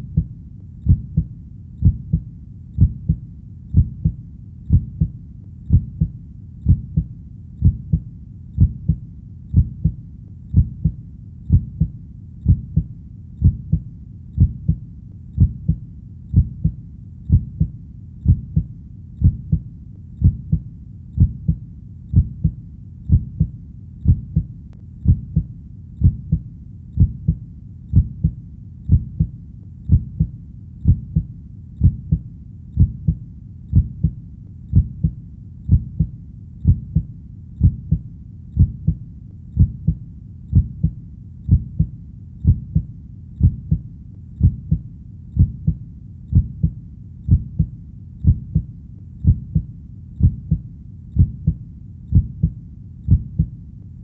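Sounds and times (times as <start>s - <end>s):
heartbeat: 0.0s - 54.0s.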